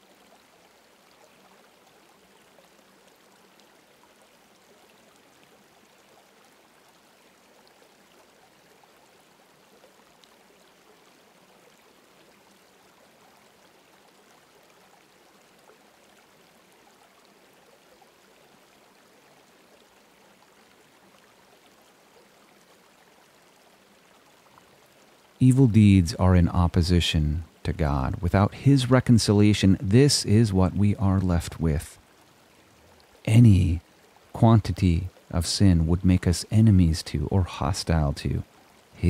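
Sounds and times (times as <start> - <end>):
faint running water: 0.0 - 39.0.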